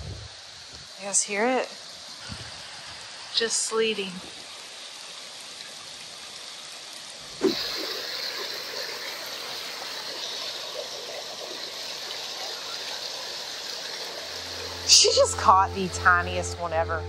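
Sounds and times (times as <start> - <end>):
brook running over rocks: 0.8 - 17.0.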